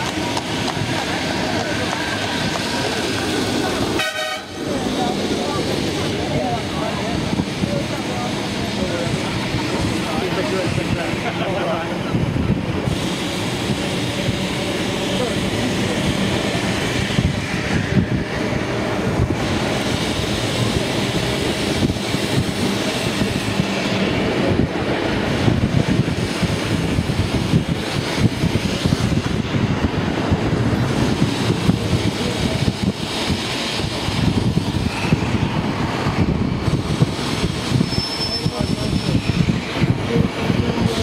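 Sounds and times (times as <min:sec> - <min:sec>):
tram wheels rumbling on rails: 0:00.0 - 0:41.0
wind buffeting microphone: 0:00.0 - 0:41.0.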